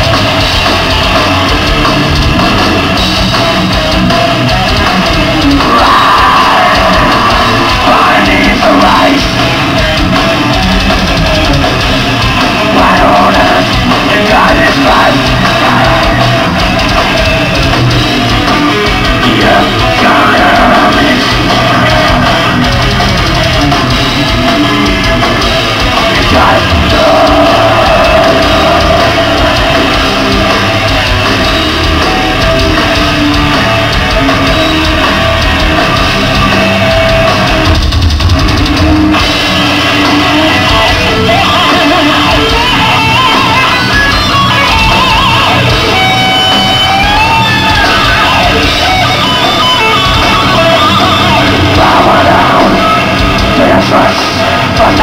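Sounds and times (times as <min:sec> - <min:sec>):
distorted electric guitars: 0:00.0 - 0:55.0
pounding drum kit: 0:00.0 - 0:55.0.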